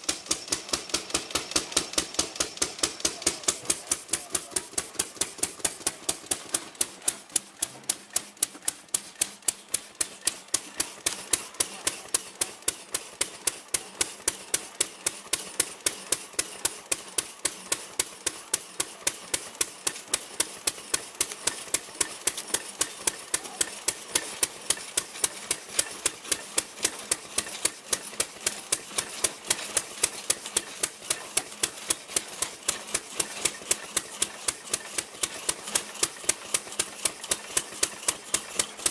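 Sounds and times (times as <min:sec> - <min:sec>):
drag saw engine cutting log: 0:00.0 - 0:38.9.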